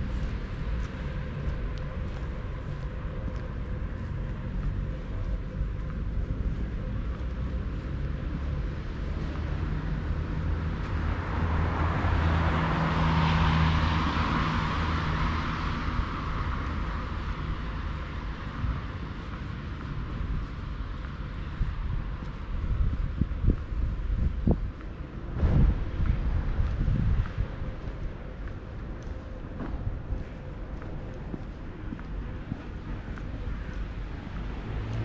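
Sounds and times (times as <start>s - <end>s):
traffic hum: 0.0s - 35.0s.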